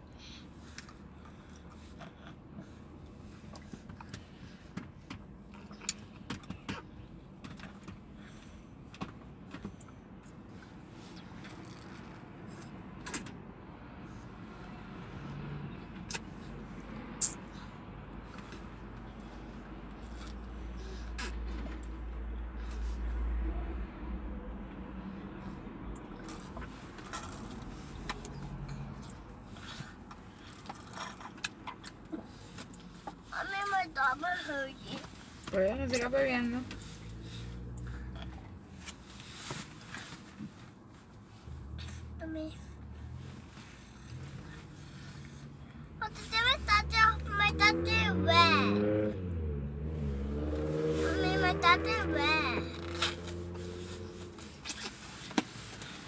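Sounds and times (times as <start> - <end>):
car engine and cabin hum: 0.2 - 56.0.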